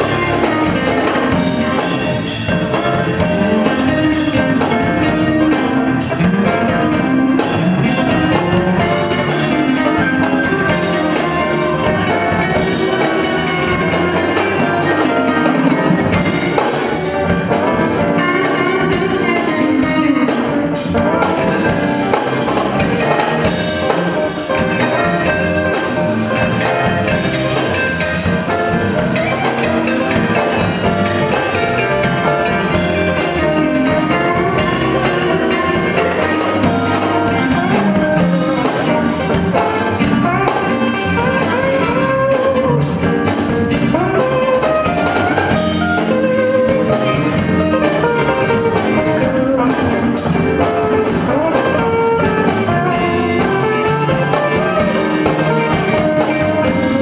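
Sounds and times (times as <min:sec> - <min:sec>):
drum kit: 0:00.0 - 0:57.0
electric bass: 0:00.0 - 0:57.0
electric guitars: 0:00.0 - 0:57.0.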